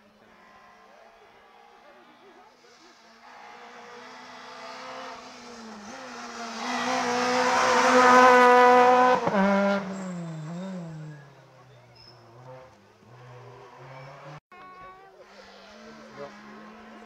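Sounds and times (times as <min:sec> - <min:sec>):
rally car engine at high revs: 0:01.6 - 0:14.4, 0:15.2 - 0:17.0.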